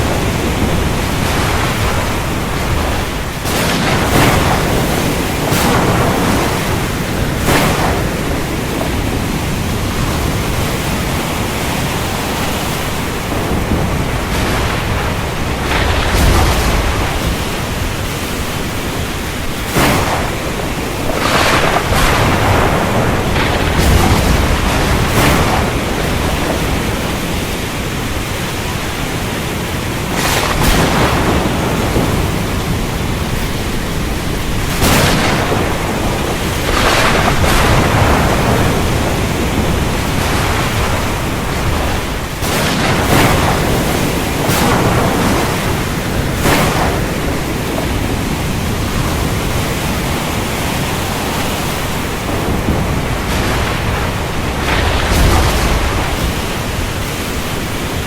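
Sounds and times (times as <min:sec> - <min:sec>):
heavy rain pouring: 0:00.0 - 0:58.0
sharp thunderclaps: 0:00.0 - 0:58.0.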